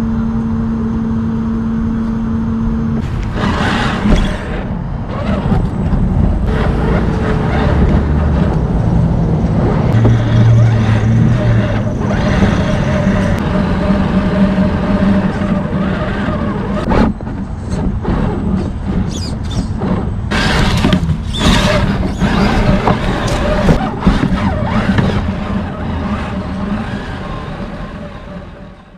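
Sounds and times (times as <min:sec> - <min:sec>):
toy truck electric motor: 0:03.0 - 0:08.9, 0:09.6 - 0:28.9
scraping and crunching over ground: 0:03.0 - 0:28.6.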